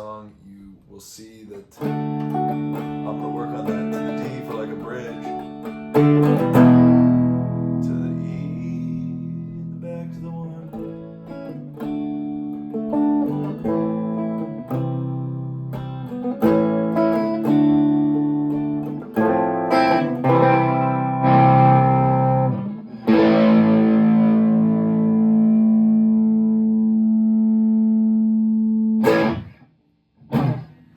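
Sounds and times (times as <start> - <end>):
acoustic guitar strumming chords: 1.8 - 29.6, 30.3 - 30.9.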